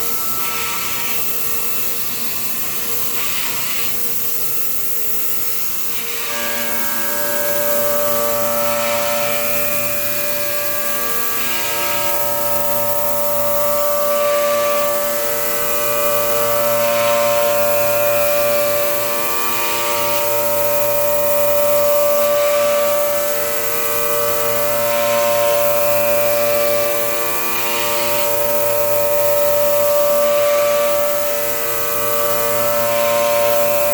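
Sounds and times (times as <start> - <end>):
milling spindle high whine: 0.0 - 33.9.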